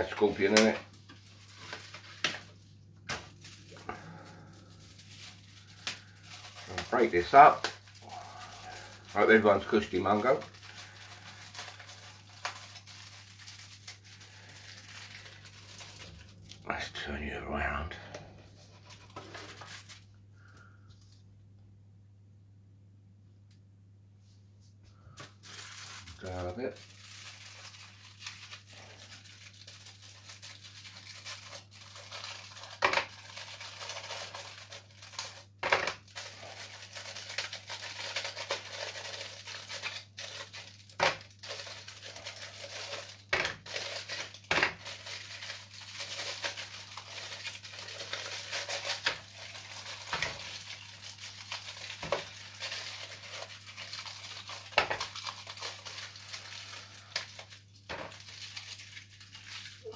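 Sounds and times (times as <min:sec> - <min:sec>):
foil wrapper crinkling: 0:00.0 - 0:16.7, 0:18.6 - 0:21.2, 0:25.0 - 0:59.9.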